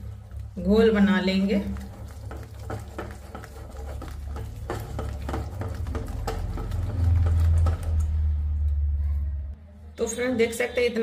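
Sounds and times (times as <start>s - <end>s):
hand mixing thick batter in bowl: 0.0s - 9.1s.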